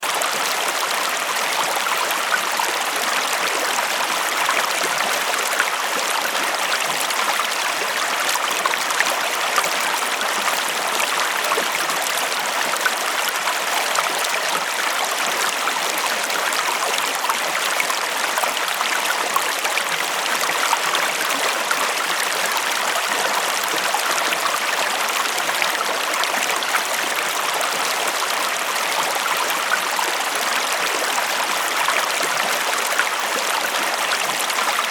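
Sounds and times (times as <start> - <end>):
river water flowing over stones: 0.0 - 34.9.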